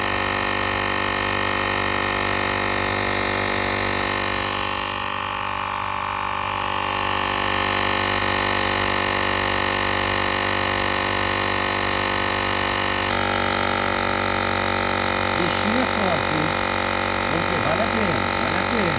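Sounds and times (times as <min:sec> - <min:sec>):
portable air compressor running: 0:00.0 - 0:18.9.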